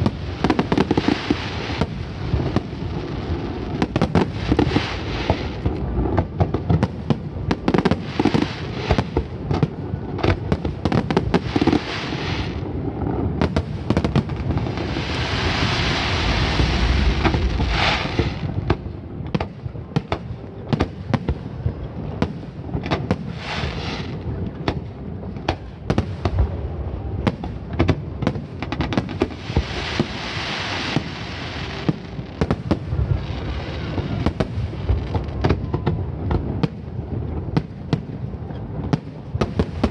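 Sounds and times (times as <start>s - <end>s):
crackling hiss of fireworks: 0.0s - 39.9s
fireworks booms and bangs: 0.0s - 39.9s.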